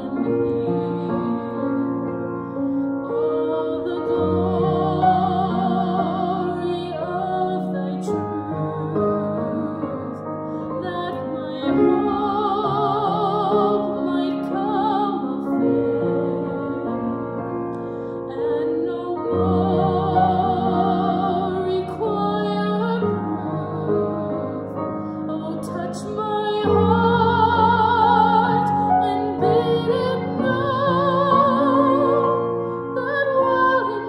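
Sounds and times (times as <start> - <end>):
woman singing with vibrato: 0.0 - 2.1, 3.0 - 10.2, 10.8 - 17.2, 18.3 - 34.0
piano accompaniment: 0.0 - 34.0.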